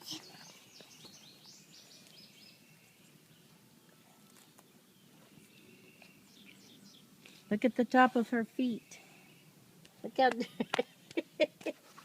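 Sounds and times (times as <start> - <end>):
background hiss: 0.0 - 12.0
faint birds chirping: 0.0 - 12.0.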